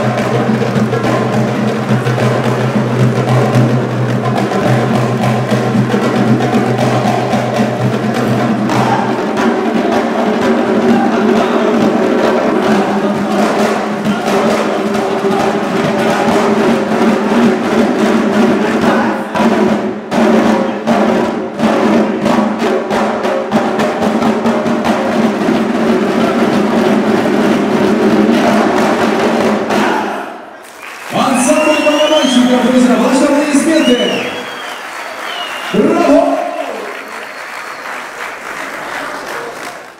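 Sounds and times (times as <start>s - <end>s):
hand drums beaten fast: 0.0s - 30.2s, 31.2s - 37.2s.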